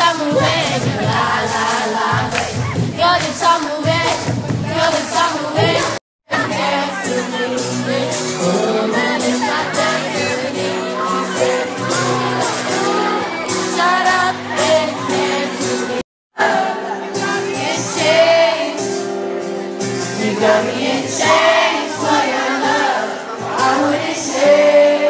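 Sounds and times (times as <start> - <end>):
live pop music with singing: 0.0 - 25.0.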